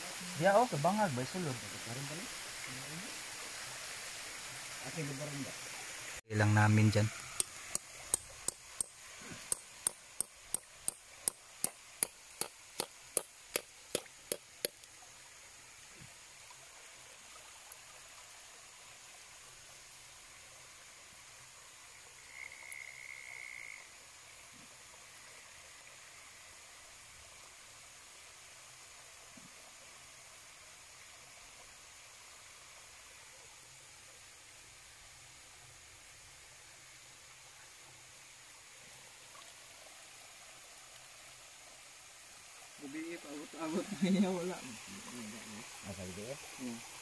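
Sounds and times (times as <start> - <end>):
creek water rushing: 0.0 - 22.5, 24.0 - 47.0.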